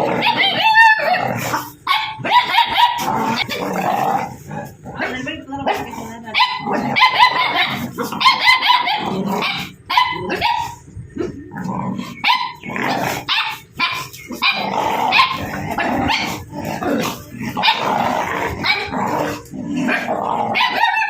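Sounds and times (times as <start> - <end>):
dogs barking and yipping: 0.0 - 21.0.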